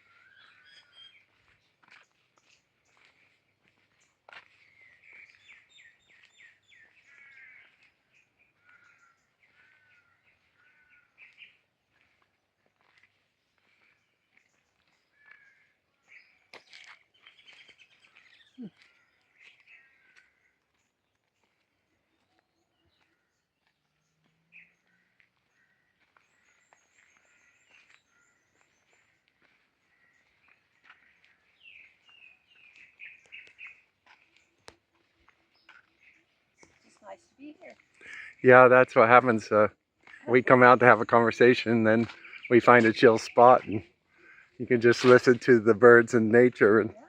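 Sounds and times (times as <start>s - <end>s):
wild birds calling: 0.0s - 47.0s.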